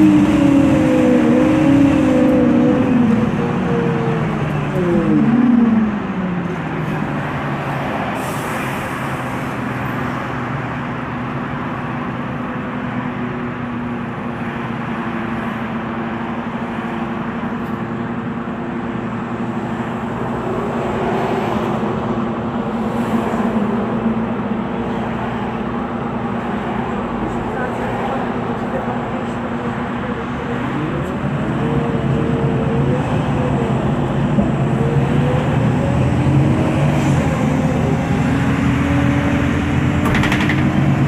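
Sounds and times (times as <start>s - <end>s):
bus engine drone: 0.0s - 41.0s
road noise: 0.0s - 41.0s.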